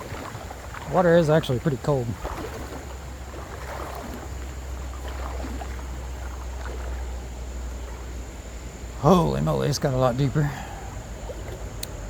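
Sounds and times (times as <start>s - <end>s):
water splashing around legs: 0.0s - 12.0s.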